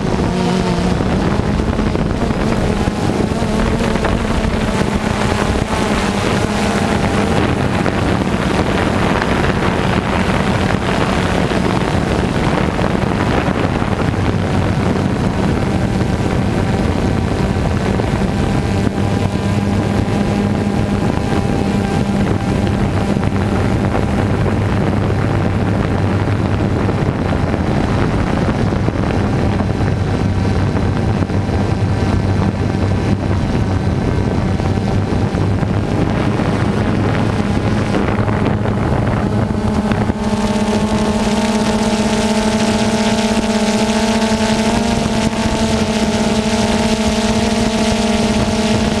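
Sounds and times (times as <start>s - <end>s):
quadcopter propellers humming: 0.0s - 49.0s
wind on microphone: 0.0s - 49.0s.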